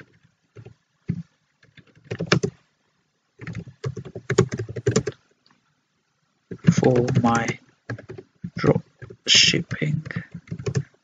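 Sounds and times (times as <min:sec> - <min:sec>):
keyboard typing: 0:00.0 - 0:02.6, 0:03.4 - 0:05.2, 0:06.5 - 0:11.0.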